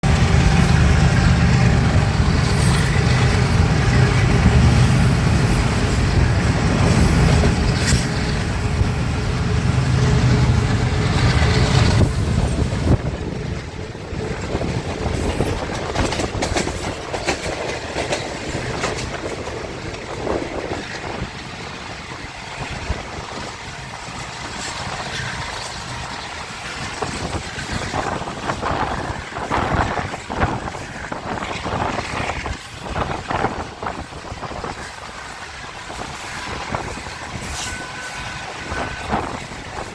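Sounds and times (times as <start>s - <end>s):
train engine rumble: 0.0s - 39.9s
train wheels clicking on track: 0.0s - 39.9s.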